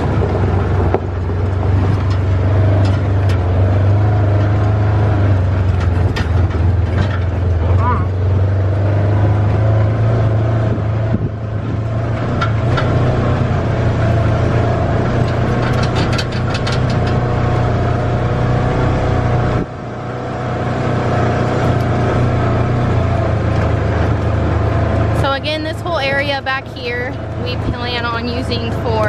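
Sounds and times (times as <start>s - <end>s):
utility vehicle engine droning: 0.0s - 29.0s.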